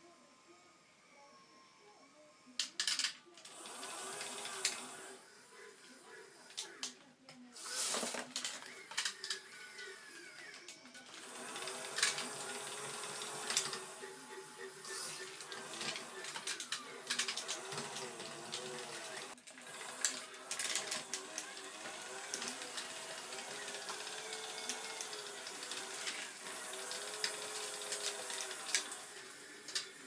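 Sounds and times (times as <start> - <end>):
model excavator motors whining: 1.2 - 30.0.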